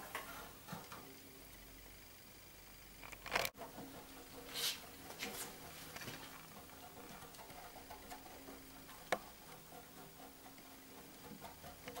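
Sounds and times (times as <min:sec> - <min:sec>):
exercise wheel soft ticking: 0:00.0 - 0:12.0
low steady hum: 0:00.0 - 0:12.0.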